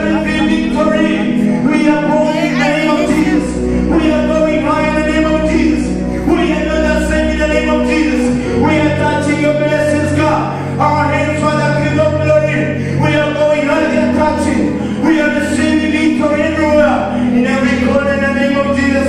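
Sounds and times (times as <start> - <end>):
gospel singing: 0.0 - 19.0
instrumental backing music: 0.0 - 19.0.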